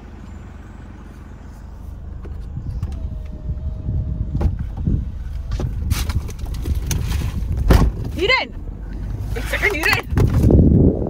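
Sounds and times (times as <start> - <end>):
car door handling rumble: 1.6 - 11.0.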